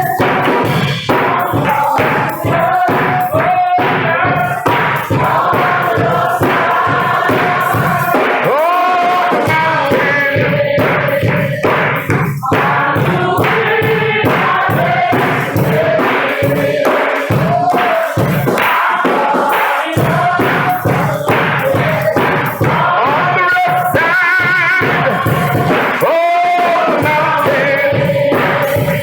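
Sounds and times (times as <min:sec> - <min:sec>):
choir and congregation singing: 0:00.0 - 0:29.0
instrumental accompaniment: 0:00.0 - 0:29.0.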